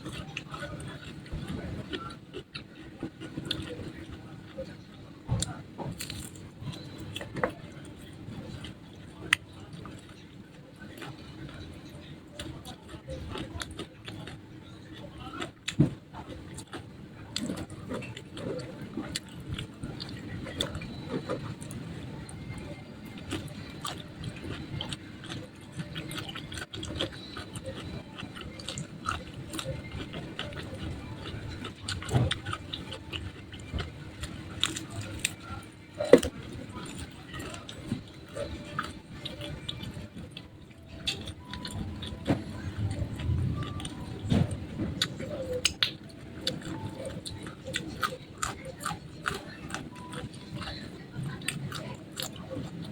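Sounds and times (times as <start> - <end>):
chewing and crunching: 0.0 - 52.9
low steady hum: 0.0 - 52.9.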